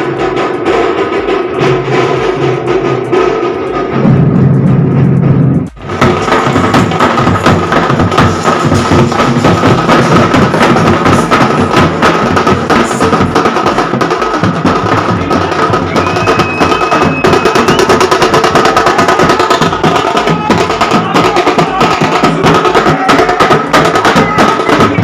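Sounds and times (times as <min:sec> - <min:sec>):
fast dense drumming: 0:00.0 - 0:25.0
loud band music: 0:00.0 - 0:25.0.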